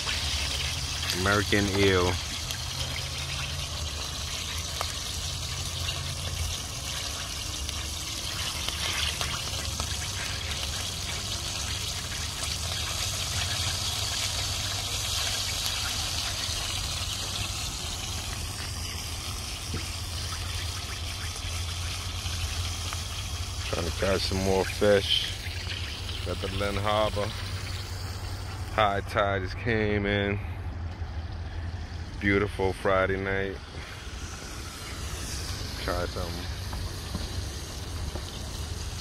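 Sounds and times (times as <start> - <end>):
fish sizzling in hot oil: 0.0 - 29.0, 33.7 - 39.0.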